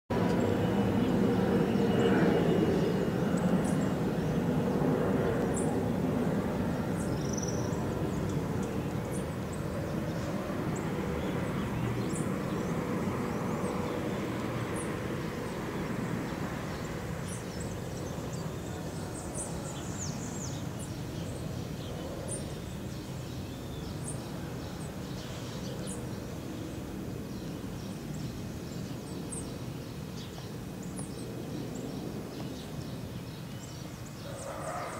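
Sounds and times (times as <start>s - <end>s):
distant jet engine rumble: 0.1s - 34.9s.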